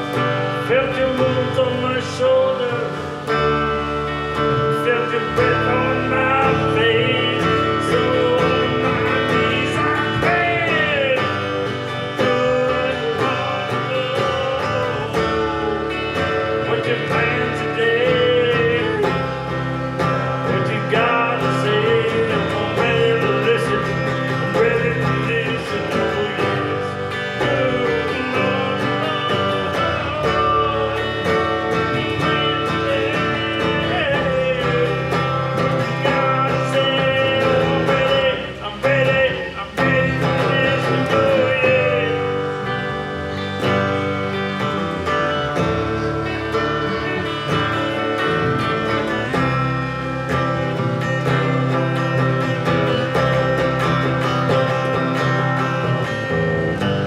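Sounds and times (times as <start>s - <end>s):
acoustic guitar playing: 0.0s - 57.0s
person singing: 0.0s - 57.0s.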